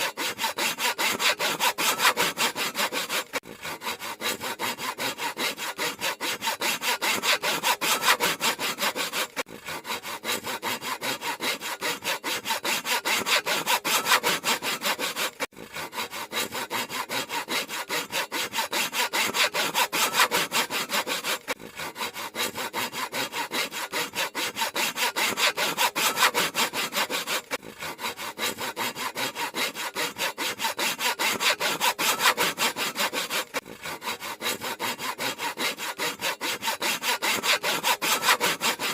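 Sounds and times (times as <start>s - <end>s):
handsaw cutting wood: 0.0s - 38.9s.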